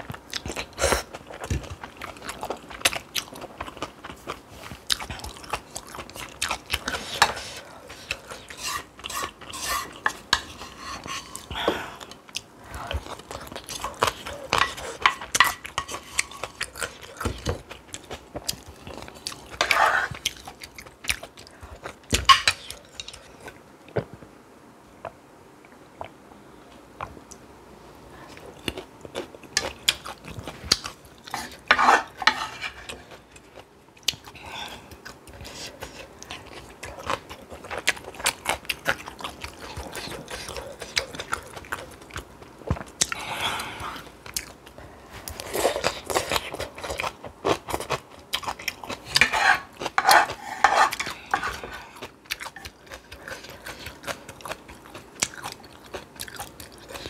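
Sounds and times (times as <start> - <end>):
chewing and crunching food: 0.0 - 24.1, 28.2 - 57.0.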